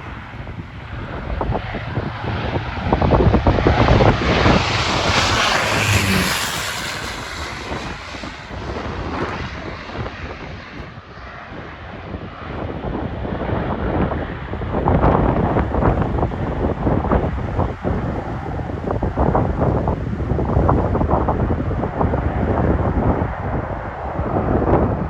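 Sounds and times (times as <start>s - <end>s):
aircraft engines passing: 0.0s - 25.0s
wind buffeting microphone: 0.0s - 25.0s.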